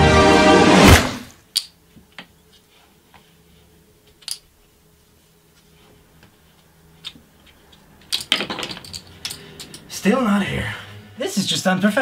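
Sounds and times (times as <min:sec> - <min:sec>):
faint steady hum: 0:01.2 - 0:12.0.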